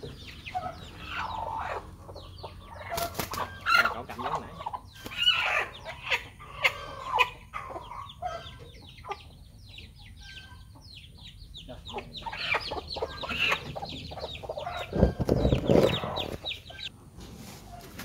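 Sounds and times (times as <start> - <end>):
chickens calling: 0.0 - 18.0.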